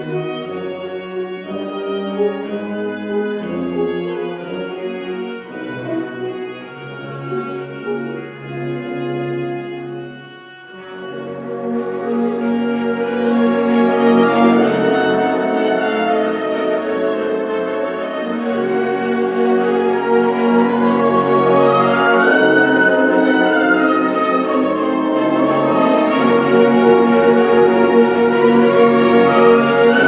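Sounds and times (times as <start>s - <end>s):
orchestral strings and brass: 0.0s - 30.0s.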